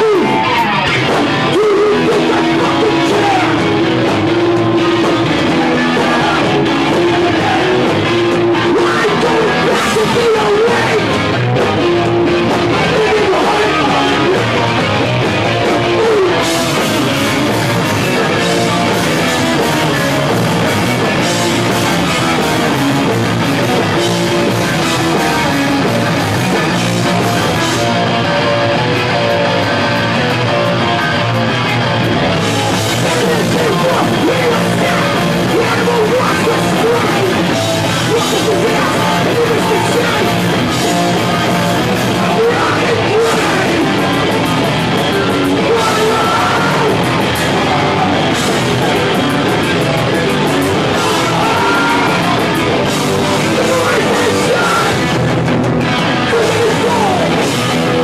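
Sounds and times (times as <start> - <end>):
punk band playing live: 0.0 - 58.0.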